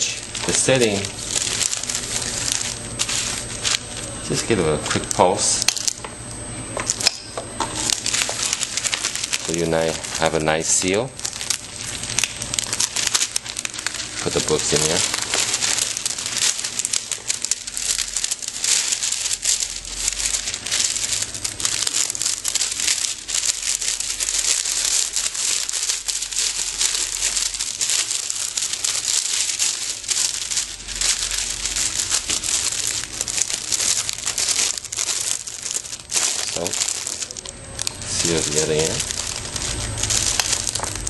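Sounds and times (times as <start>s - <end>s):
plastic film crinkling: 0.0s - 41.0s.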